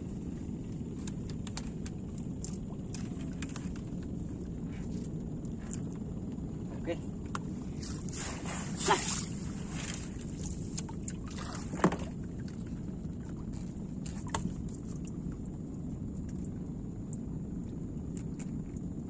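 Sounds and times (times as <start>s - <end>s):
boat low rumble: 0.0s - 19.0s.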